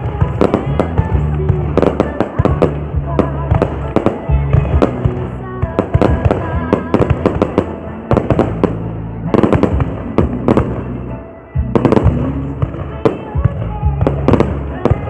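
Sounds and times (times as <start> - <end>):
fireworks banging: 0.0 - 15.0
music with steady bass line: 0.0 - 15.0.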